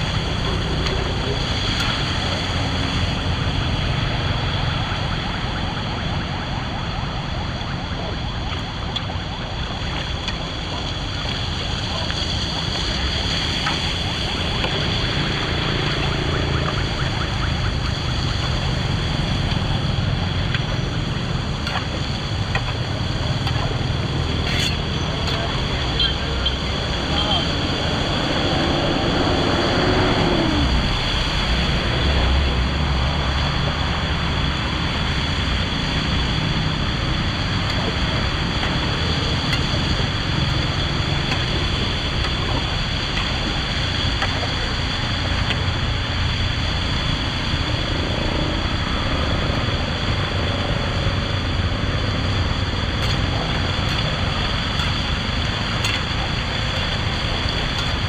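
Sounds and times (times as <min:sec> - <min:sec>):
floodwater rushing into storm drain: 0:00.0 - 0:58.0.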